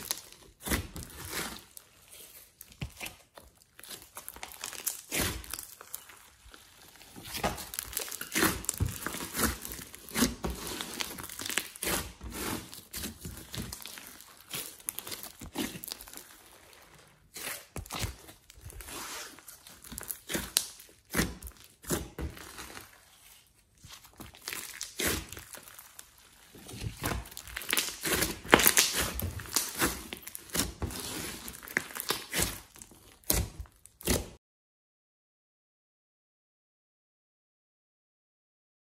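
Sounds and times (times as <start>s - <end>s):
slime squishing and popping: 0.0s - 1.8s, 2.6s - 23.0s, 23.9s - 34.4s.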